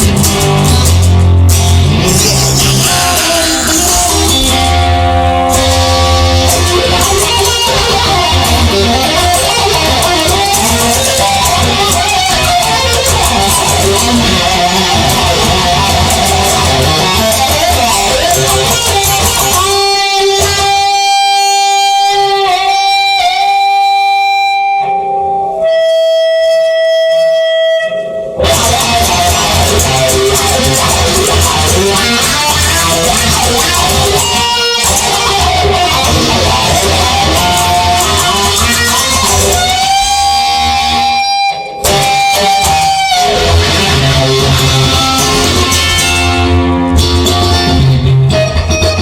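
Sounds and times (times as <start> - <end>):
band with bass: 0.0 - 49.0
electric guitar with string bends: 0.0 - 49.0.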